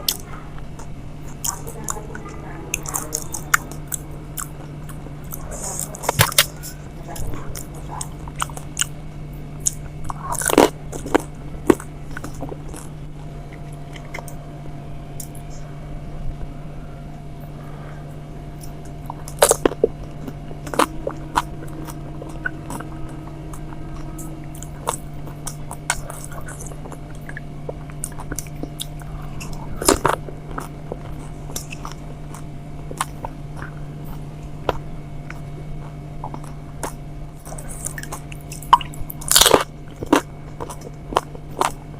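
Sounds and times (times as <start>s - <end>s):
crisp food crunching: 0.0s - 14.4s, 18.5s - 41.9s
wet chewing: 0.0s - 14.4s, 17.5s - 41.9s
steady low hum: 0.0s - 41.9s.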